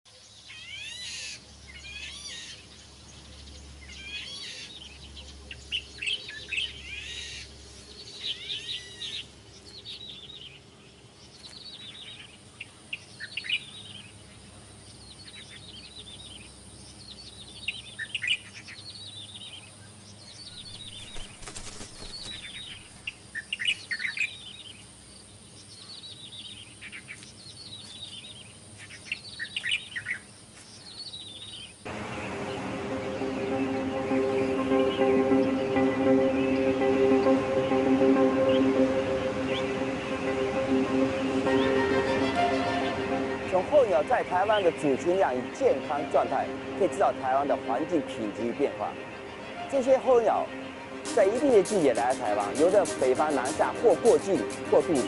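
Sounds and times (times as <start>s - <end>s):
flock of birds chirping: 0.1s - 55.0s.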